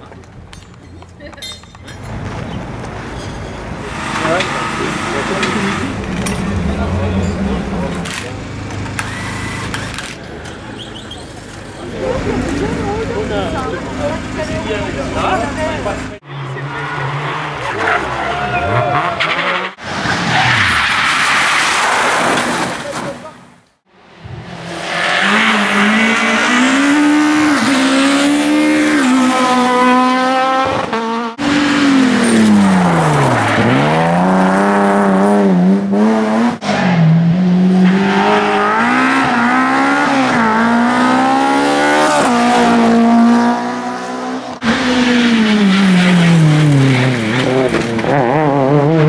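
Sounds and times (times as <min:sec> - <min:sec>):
rally car engines revving: 0:01.8 - 0:23.4, 0:24.1 - 0:49.0.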